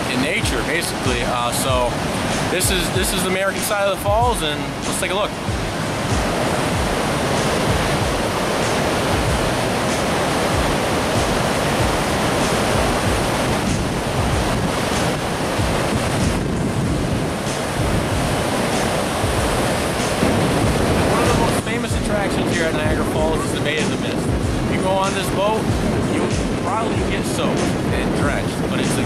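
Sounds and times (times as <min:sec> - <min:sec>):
river rapids churning: 0:00.0 - 0:29.0
waterfall rushing: 0:00.0 - 0:29.0
wind buffeting microphone: 0:00.0 - 0:29.0.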